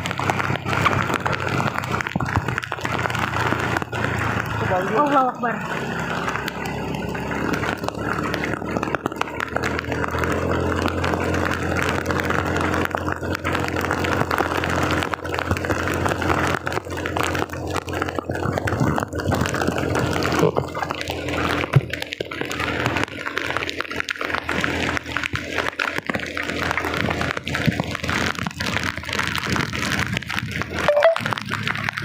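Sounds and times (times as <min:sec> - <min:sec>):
heavy rain pouring: 0:00.0 - 0:32.0
vehicle engine hum: 0:00.0 - 0:32.0.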